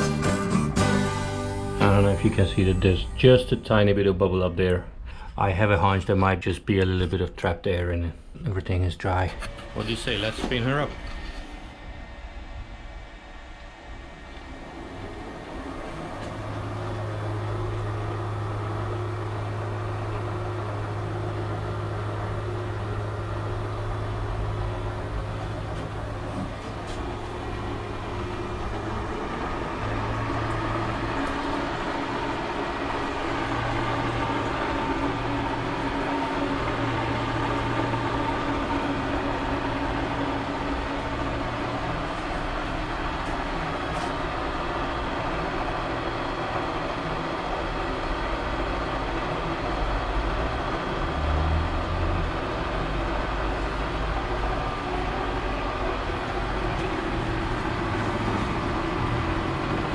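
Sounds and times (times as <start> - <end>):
milling machine humming and whirring: 0.0 - 5.2, 8.6 - 59.9.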